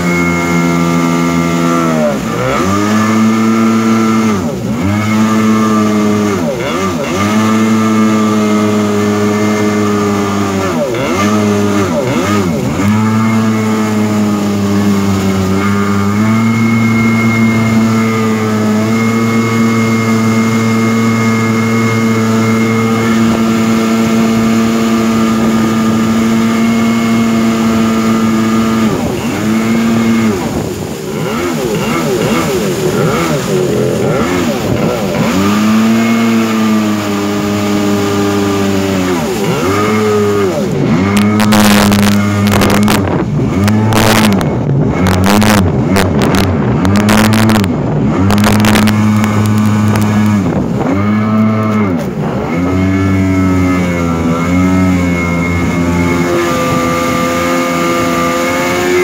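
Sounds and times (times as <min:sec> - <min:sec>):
jet-ski engine revving: 0:00.0 - 0:59.0
water rushing from jet: 0:00.0 - 0:59.0
microphone crackling bursts: 0:11.4 - 0:59.0.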